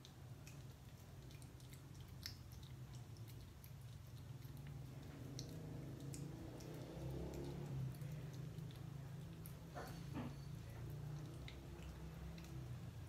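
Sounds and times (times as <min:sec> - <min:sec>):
cat licking from a spoon: 0:00.0 - 0:13.0
low steady hum: 0:00.0 - 0:13.0.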